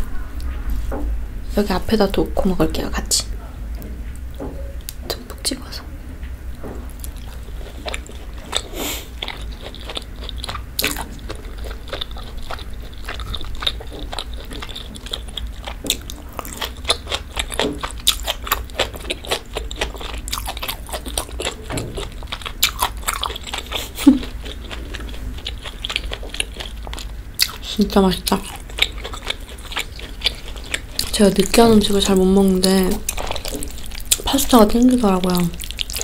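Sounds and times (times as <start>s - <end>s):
chewing with small crunches: 6.5s - 36.0s.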